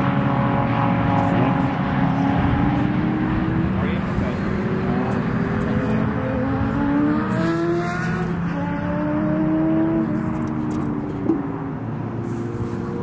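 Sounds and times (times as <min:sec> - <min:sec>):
sports car engine at full throttle: 0:00.0 - 0:13.0.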